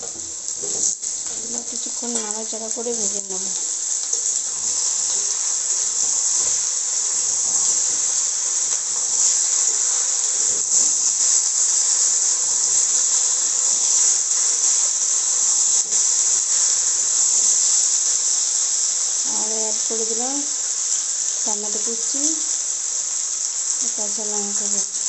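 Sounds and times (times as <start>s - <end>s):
vegetables frying in hot oil: 0.0s - 25.0s.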